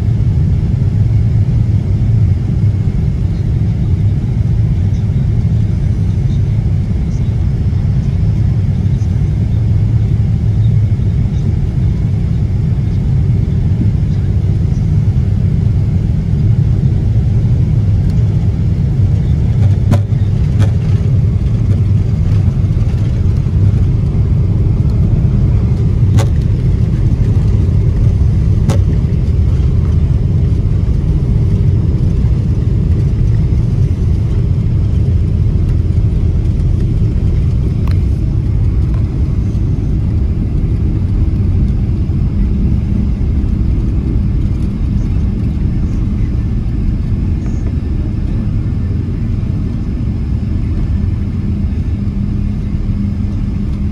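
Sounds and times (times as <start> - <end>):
airliner cabin rumble: 0.0 - 53.9.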